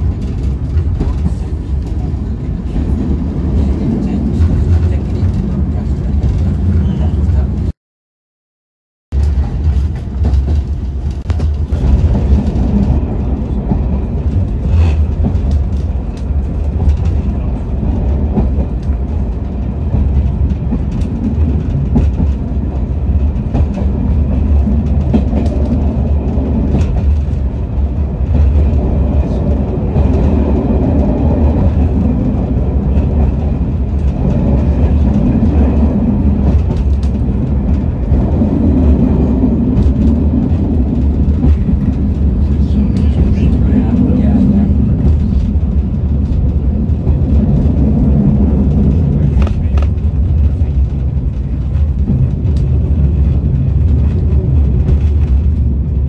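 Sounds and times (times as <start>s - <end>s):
train rumbling: 0.0s - 7.8s, 9.1s - 56.0s.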